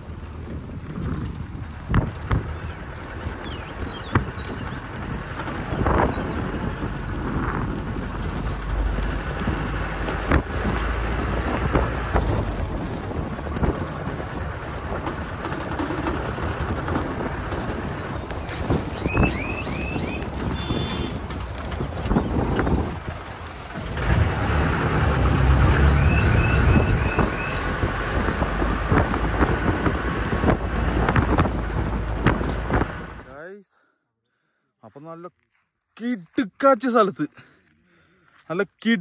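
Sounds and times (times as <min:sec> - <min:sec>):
jeep engine rumble: 0:00.0 - 0:33.4
knocks and clunks from bumpy ride: 0:00.0 - 0:33.4.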